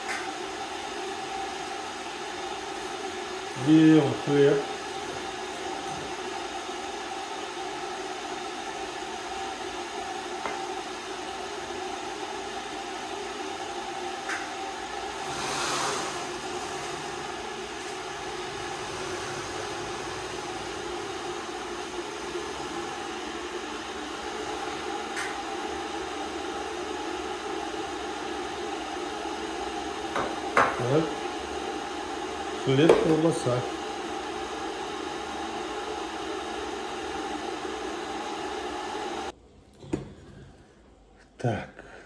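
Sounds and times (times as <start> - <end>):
electric kettle hissing: 0.0 - 39.4.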